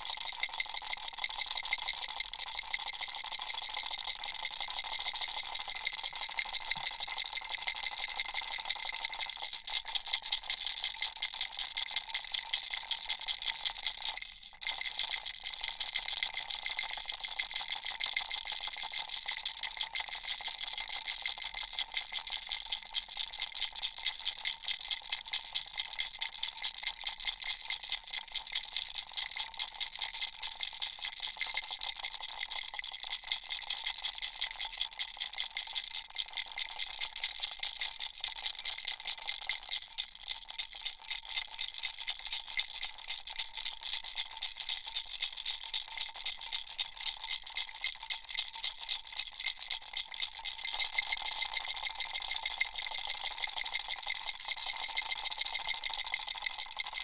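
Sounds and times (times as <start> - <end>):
baby rattle shaking: 0.0 - 11.2, 12.1 - 18.8, 27.4 - 57.0.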